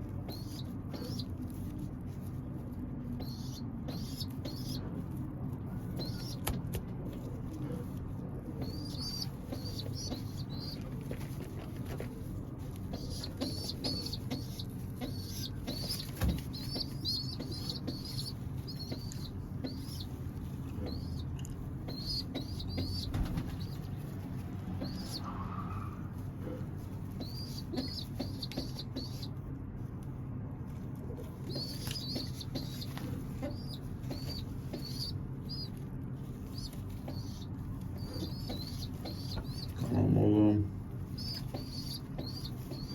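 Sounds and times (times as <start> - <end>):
pigeon squab peeping: 0.0 - 29.5, 30.7 - 42.9
low steady hum: 0.0 - 42.9.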